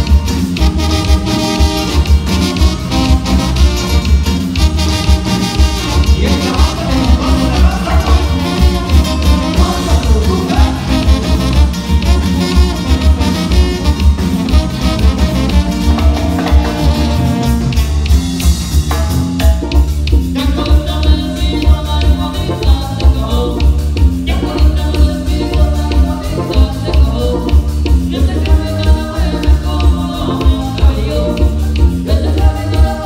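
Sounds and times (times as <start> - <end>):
brass band dance music: 0.0 - 33.0
pulsing bass line: 0.0 - 33.0.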